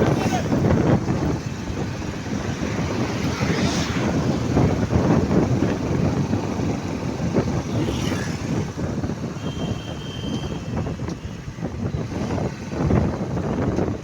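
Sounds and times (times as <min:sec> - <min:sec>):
highway traffic rumbling: 0:00.0 - 0:14.0.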